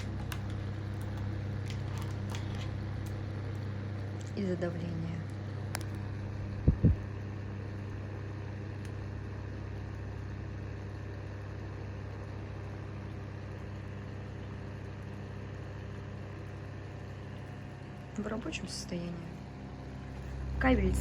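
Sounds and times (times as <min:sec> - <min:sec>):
electric fan running: 0:00.0 - 0:21.0.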